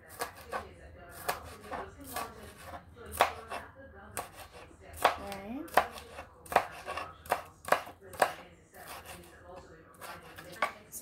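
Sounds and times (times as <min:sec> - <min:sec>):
knife chopping on cutting board: 0:00.0 - 0:09.3, 0:09.9 - 0:10.9.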